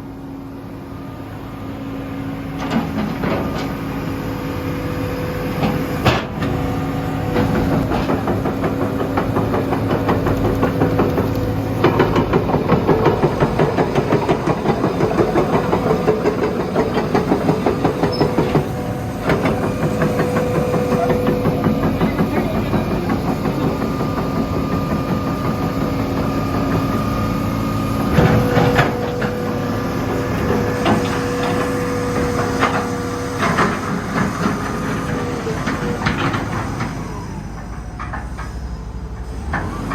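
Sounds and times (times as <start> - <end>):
diesel engine under load: 0.0 - 39.9
hydraulic whine: 0.0 - 39.9.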